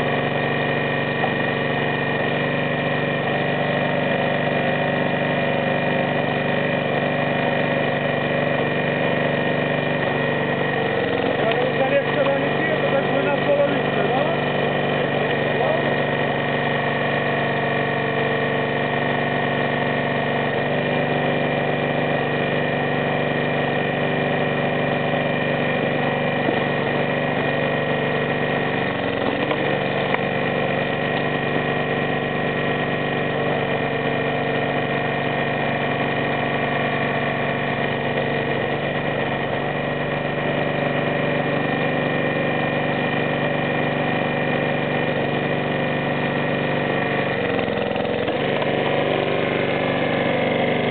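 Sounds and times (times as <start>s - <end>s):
small petrol engine running: 0.0s - 50.9s.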